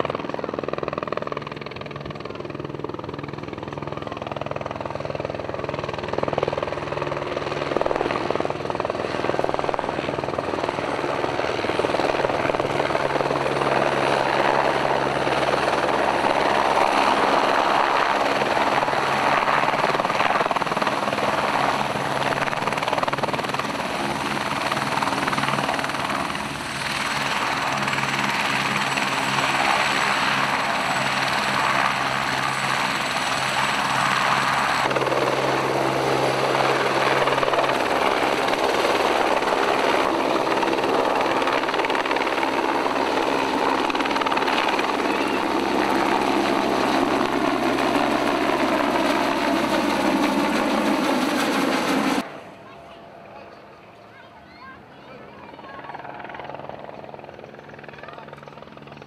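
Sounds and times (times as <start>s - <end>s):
helicopter rotor and turbine: 0.0s - 59.0s.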